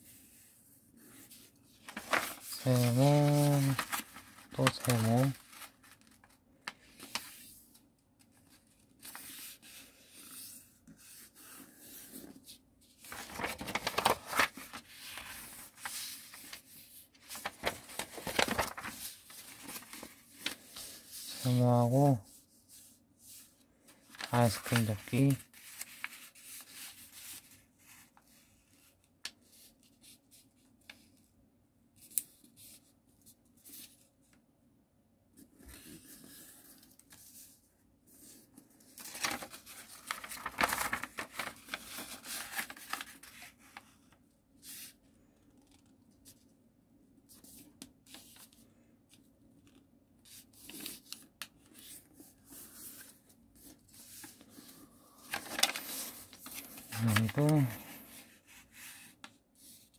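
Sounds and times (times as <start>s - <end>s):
paper rustling and crinkling: 1.0s - 31.2s, 35.4s - 45.0s, 47.3s - 59.9s.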